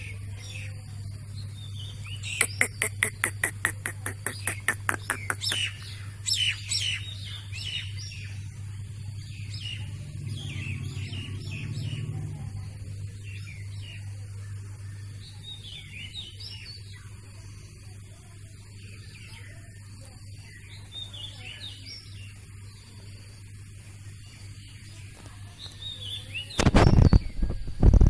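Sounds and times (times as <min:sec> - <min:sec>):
birds chirping: 0:00.0 - 0:28.0
steady low hum: 0:00.0 - 0:28.0.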